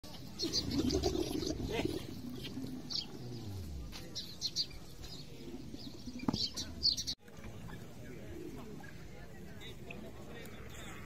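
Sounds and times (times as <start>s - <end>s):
murmur of outdoor voices: 0.0s - 11.0s
small birds chirping: 0.1s - 11.0s.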